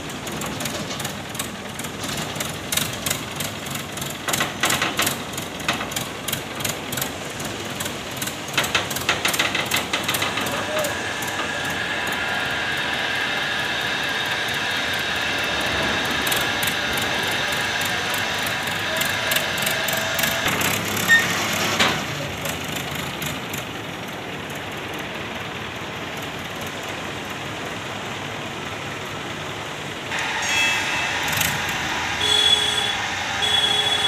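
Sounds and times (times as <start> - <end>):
crane engine running: 0.0 - 34.0
hydraulic whine: 0.1 - 23.8, 28.8 - 34.0.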